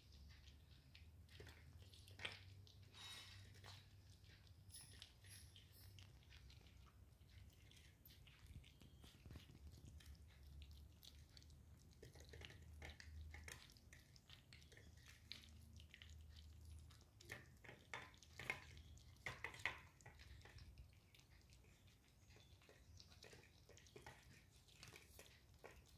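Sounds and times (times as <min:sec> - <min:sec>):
kittens chewing and licking: 0:00.0 - 0:25.9.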